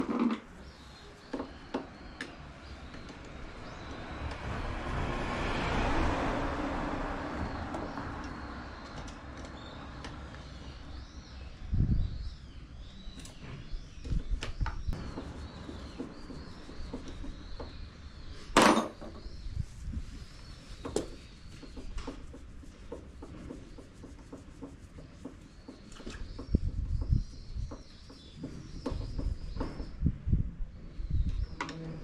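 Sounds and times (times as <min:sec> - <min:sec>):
small birds chirping: 0:00.5 - 0:04.5, 0:07.4 - 0:32.0.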